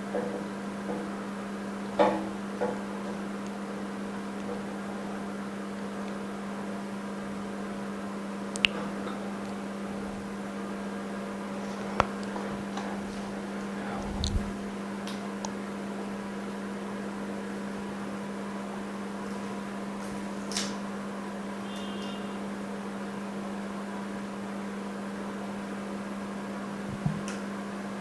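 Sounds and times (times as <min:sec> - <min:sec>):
electrical hum of machinery: 0:00.0 - 0:28.0.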